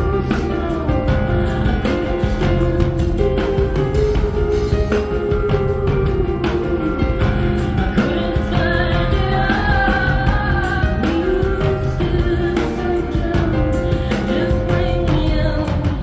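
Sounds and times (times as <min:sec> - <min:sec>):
drums steady beat: 0:00.0 - 0:16.0
woman singing with rock band: 0:00.0 - 0:16.0.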